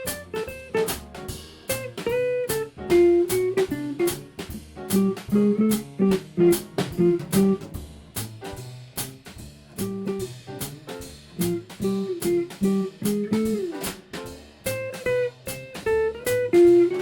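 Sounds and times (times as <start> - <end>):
drum kit: 0.0 - 17.0
jazz guitar single notes: 0.0 - 17.0
walking bass: 0.0 - 17.0.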